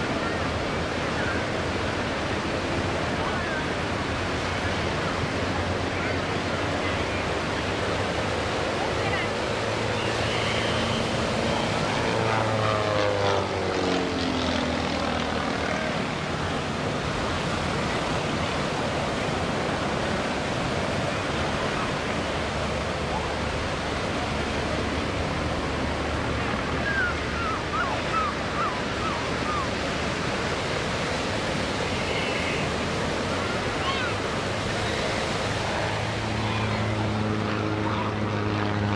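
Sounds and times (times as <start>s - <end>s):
propeller plane engine droning: 0.0s - 38.9s
surf and wind: 0.0s - 38.9s.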